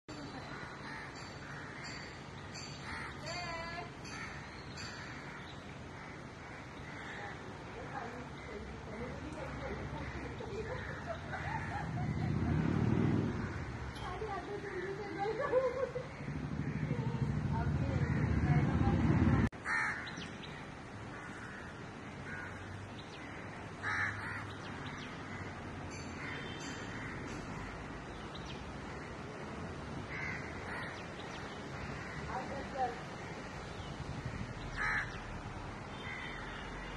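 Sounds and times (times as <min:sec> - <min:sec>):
outdoor background noise: 0:00.0 - 0:36.9.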